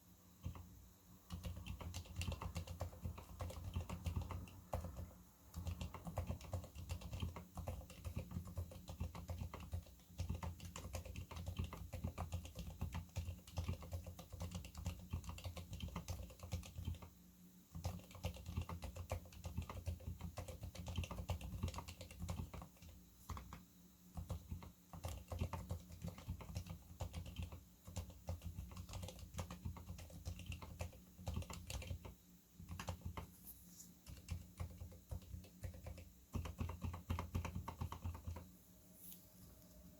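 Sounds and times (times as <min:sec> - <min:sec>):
muted keyboard typing: 0:00.4 - 0:33.4, 0:34.0 - 0:38.6.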